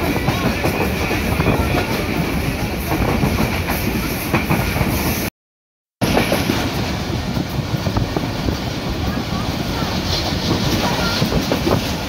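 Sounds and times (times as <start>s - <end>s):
train wheels clattering on track: 0.0s - 5.3s, 6.0s - 12.0s.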